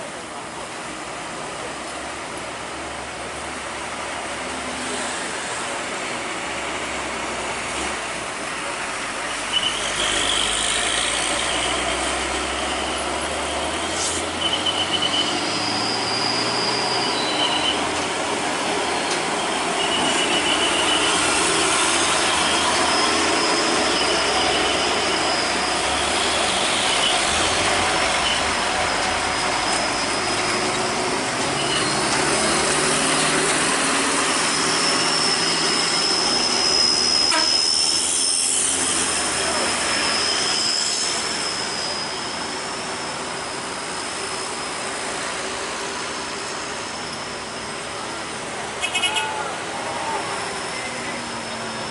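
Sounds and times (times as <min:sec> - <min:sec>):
diesel truck engine: 0:00.0 - 0:51.9
road noise: 0:00.0 - 0:51.9
high-pitched squeals: 0:09.2 - 0:51.9.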